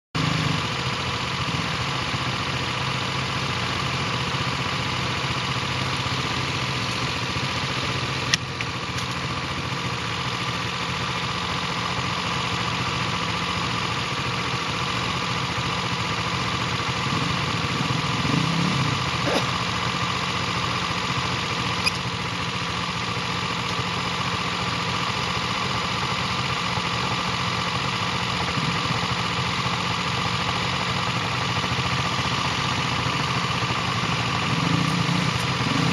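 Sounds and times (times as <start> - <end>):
vehicle engine running: 0.2 - 35.9.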